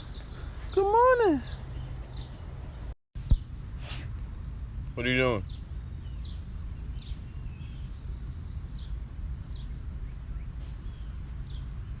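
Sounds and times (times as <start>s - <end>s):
birds chirping: 0.0s - 3.8s, 5.0s - 12.0s.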